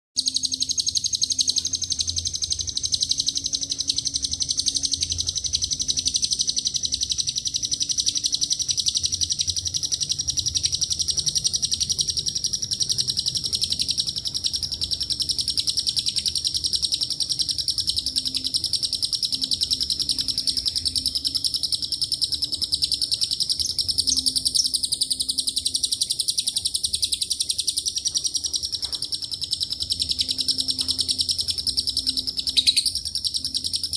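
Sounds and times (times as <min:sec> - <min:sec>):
lovebird chattering trill: 0:00.2 - 0:33.9.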